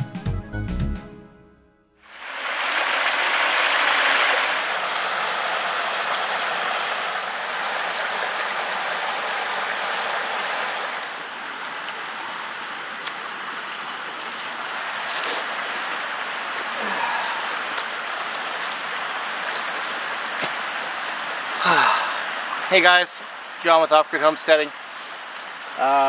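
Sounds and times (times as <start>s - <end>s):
stream running over rocks: 2.0s - 26.0s.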